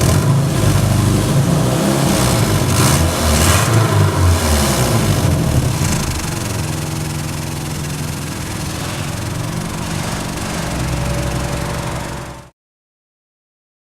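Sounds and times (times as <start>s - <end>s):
car engine running with knock: 0.0s - 12.5s.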